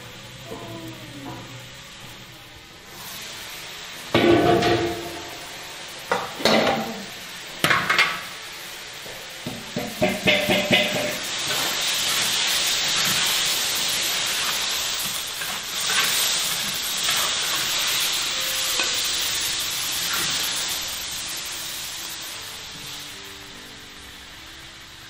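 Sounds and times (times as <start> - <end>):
food sizzling in a wok: 0.0 - 25.0.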